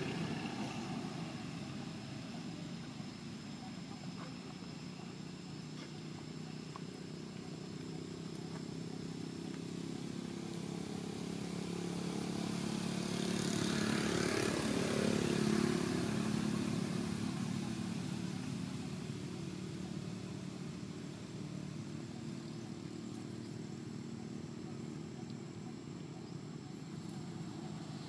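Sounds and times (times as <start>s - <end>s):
vehicle engine passing by: 0.0s - 28.0s.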